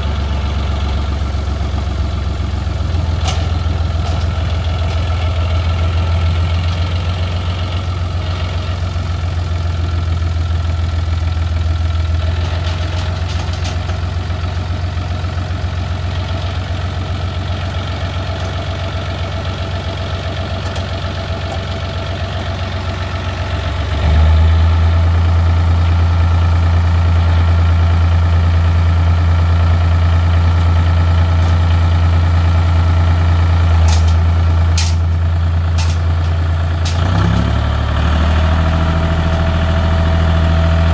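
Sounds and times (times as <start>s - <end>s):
diesel tractor engine idling: 0.0s - 40.9s.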